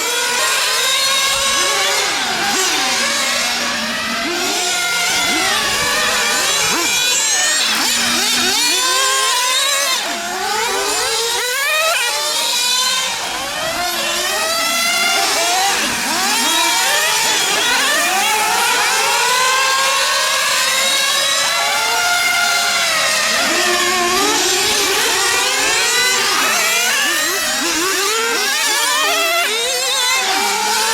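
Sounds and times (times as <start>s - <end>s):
rc car engines revving: 0.0s - 30.9s.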